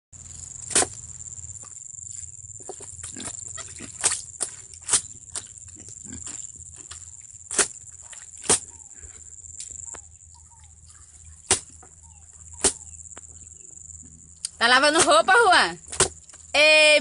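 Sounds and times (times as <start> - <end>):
steady high-pitched whine: 0.2 - 17.0.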